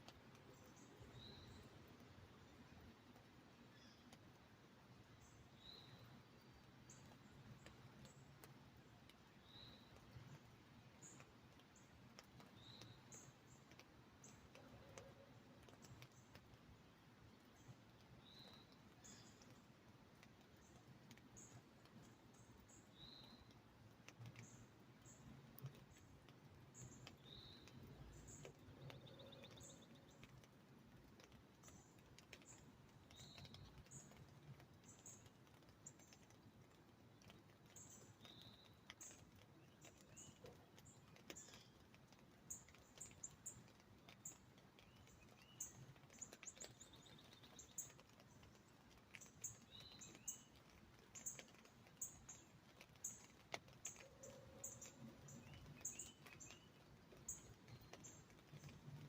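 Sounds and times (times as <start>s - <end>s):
raindrop ticking on umbrella: 0.0s - 59.0s
soft rain hiss: 0.0s - 59.0s.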